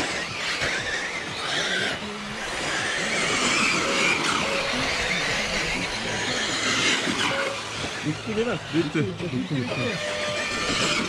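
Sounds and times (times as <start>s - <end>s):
model car motor whine: 0.0s - 11.0s.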